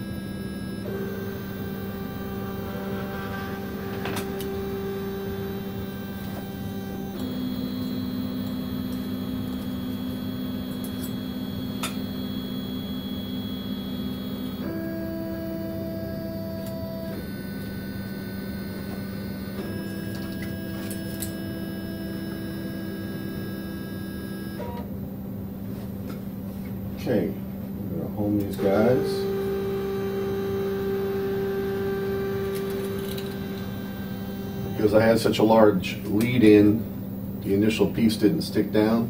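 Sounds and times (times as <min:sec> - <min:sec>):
stepper motors whining: 0:00.0 - 0:24.8, 0:28.4 - 0:36.6
steady hum: 0:00.0 - 0:39.0.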